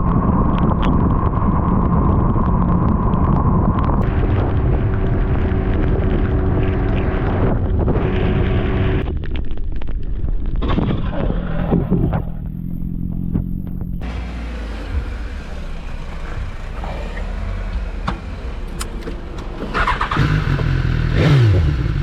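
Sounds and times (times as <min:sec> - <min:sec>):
motorcycle engine running: 0:00.0 - 0:09.3, 0:11.6 - 0:22.0.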